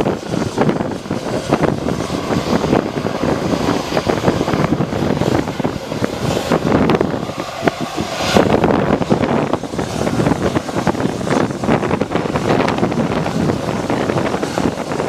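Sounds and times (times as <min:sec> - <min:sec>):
jet aircraft engine noise: 0:00.0 - 0:15.0
wind buffeting microphone: 0:00.0 - 0:15.0.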